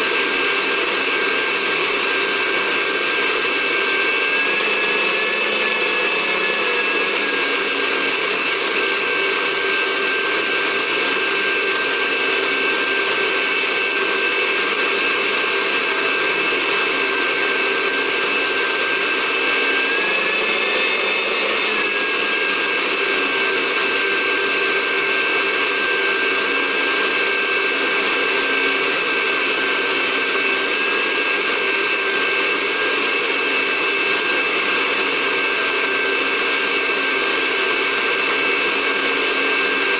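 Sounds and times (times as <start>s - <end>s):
electric blender grinding: 0.0s - 39.9s.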